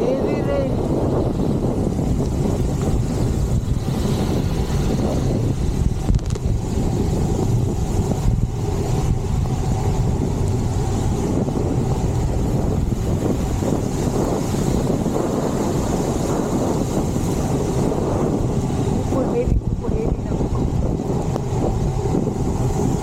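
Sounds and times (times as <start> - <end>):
road noise: 0.0 - 23.0
wind buffeting microphone: 0.0 - 23.0.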